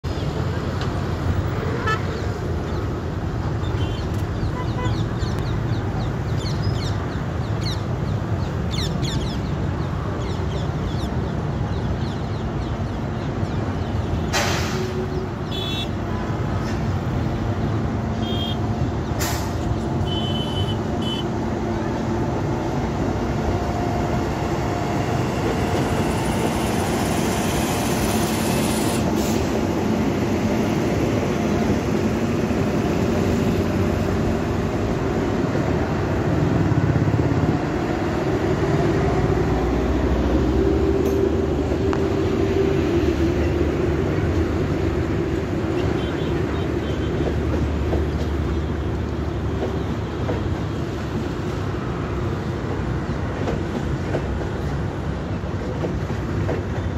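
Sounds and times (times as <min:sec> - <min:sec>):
train rumbling along track: 0:00.0 - 0:56.9.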